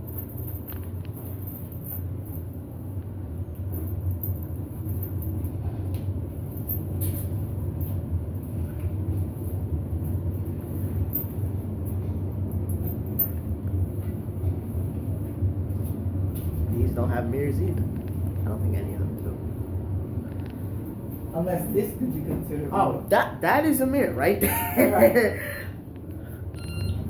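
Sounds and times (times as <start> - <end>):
elevator rumble and hum: 0.0 - 27.0.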